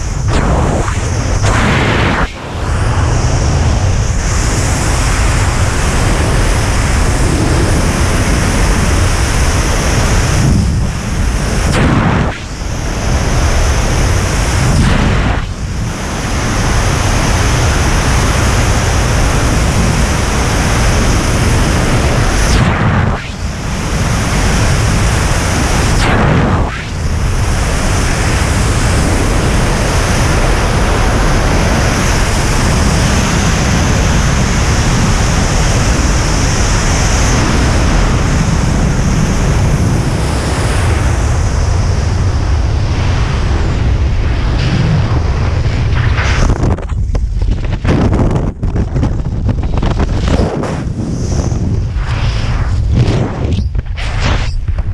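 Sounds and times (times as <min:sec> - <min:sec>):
wind roaring over microphone: 0:00.0 - 0:54.9.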